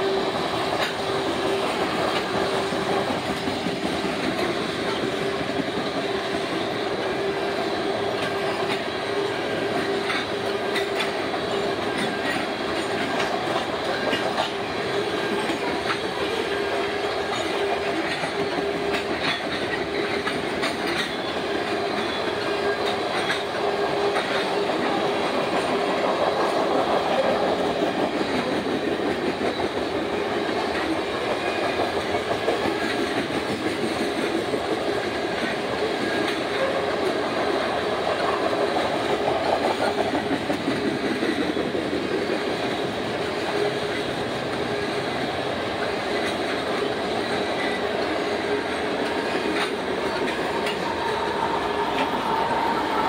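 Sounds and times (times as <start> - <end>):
freight train rolling past: 0.0 - 53.0
wheels clacking over rail joints: 0.0 - 53.0.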